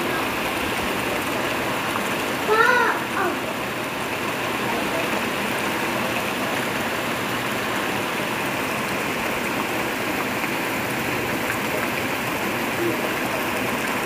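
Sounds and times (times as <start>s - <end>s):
heavy rain on leaves: 0.0s - 14.0s.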